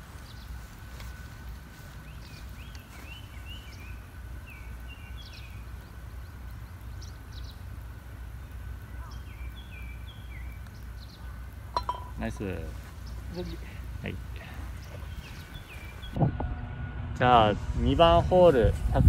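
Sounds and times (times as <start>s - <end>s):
small birds chirping: 0.0s - 16.2s
steady low rumble: 0.0s - 19.0s.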